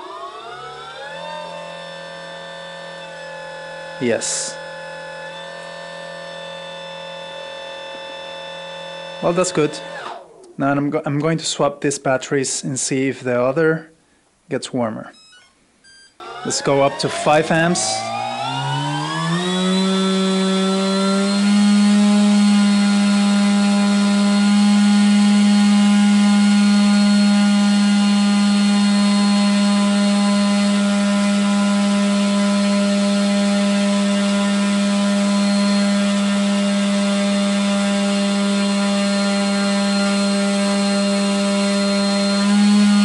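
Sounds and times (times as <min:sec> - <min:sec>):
electric motor whining: 0:00.0 - 0:10.6, 0:15.9 - 0:43.0.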